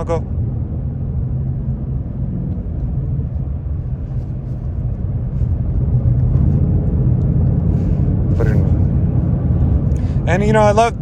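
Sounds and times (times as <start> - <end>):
car engine rumbling while driving: 0.0 - 11.0.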